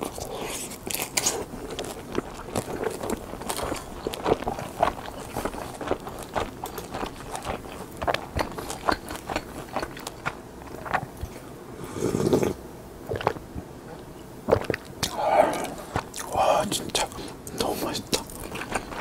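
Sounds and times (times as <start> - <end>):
wet chewing clicks and smacks: 0.0 - 11.4, 13.1 - 13.5, 14.5 - 19.0
crunching while eating: 0.0 - 13.6, 14.4 - 19.0.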